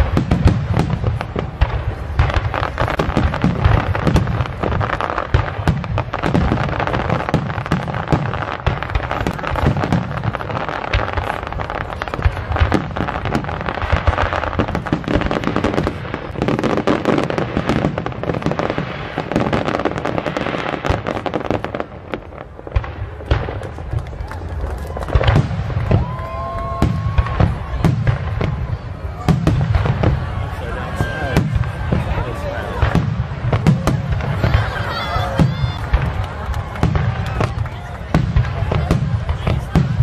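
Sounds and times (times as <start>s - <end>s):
fireworks booms and crackles: 0.0s - 40.0s.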